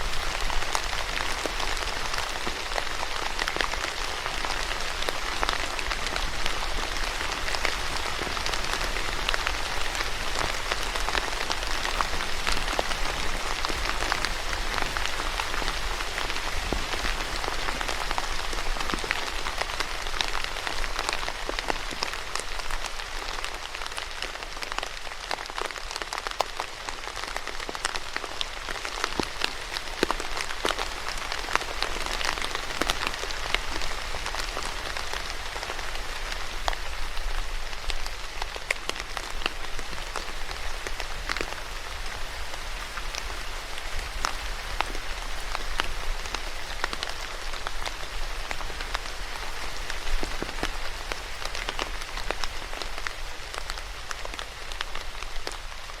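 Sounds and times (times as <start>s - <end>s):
steady rain falling on surface: 0.0s - 56.0s.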